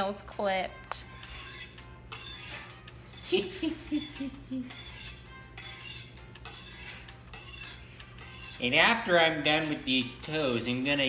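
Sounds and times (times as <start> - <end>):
knife scraping on honing steel: 0.9 - 11.0.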